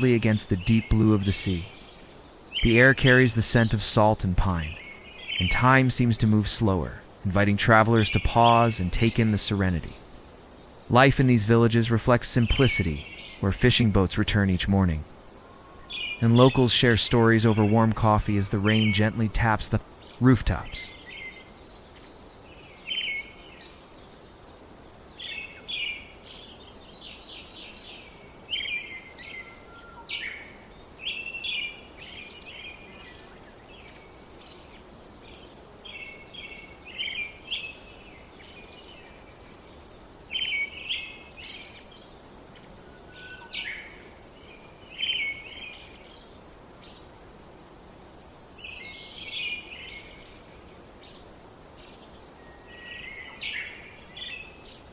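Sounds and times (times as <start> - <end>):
birds chirping: 0.0 - 54.9
faint background hiss: 0.0 - 54.9.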